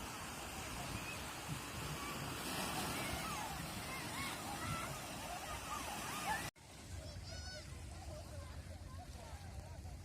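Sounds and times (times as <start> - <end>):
sea surf: 0.0 - 10.0.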